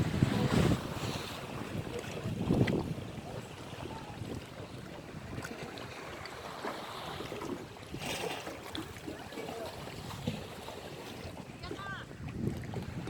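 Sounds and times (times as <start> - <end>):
sea waves washing on shore: 0.0 - 13.0
wind on microphone: 0.0 - 13.0.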